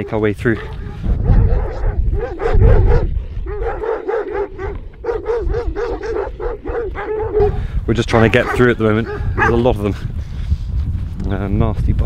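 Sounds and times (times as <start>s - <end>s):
dogs barking aggressively: 0.0s - 9.7s
low rumble: 0.6s - 12.0s.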